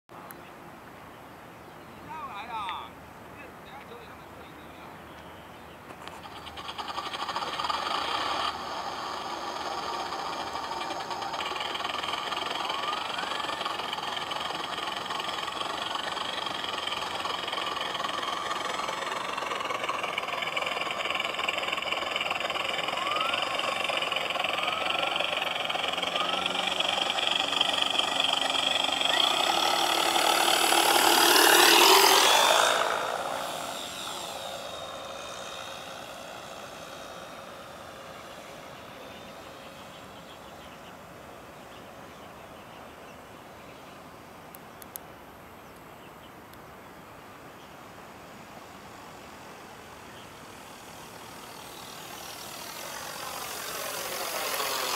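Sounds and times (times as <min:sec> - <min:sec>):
model plane engine drone: 0:03.5 - 0:45.0, 0:45.6 - 0:54.9.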